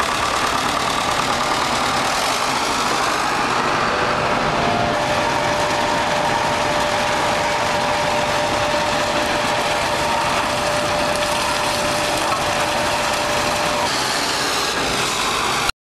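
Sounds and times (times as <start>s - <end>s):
high machine whine: 0.0s - 15.7s
wood chipper mechanical clatter: 0.0s - 15.7s.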